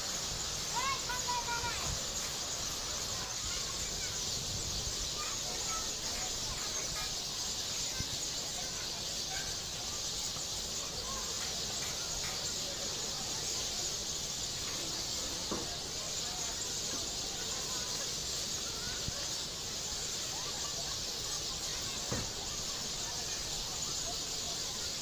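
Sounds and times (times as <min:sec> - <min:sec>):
nestlings squeaky begging calls: 0:00.0 - 0:25.0
steady high hiss: 0:00.0 - 0:25.0.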